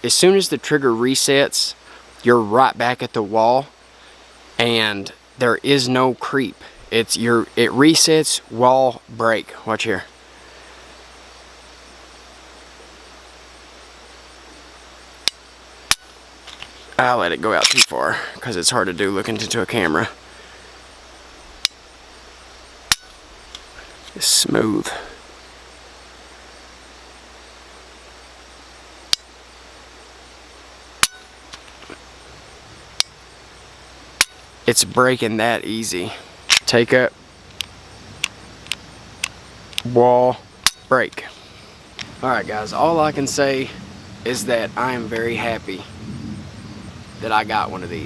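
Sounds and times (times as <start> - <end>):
faint steady hiss: 0.0 - 48.0.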